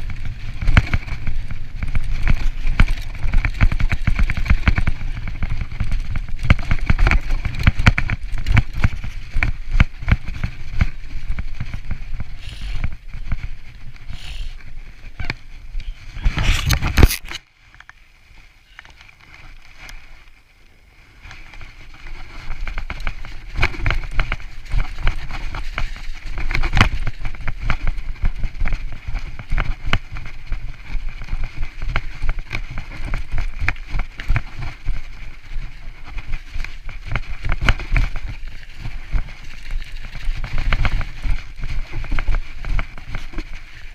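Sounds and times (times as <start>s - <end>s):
bike rattling over rough ground: 0.0s - 43.9s.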